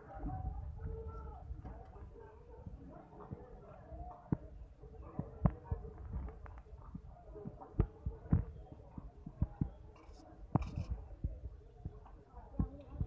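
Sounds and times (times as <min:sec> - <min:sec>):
murmur of distant voices: 0:00.0 - 0:13.0.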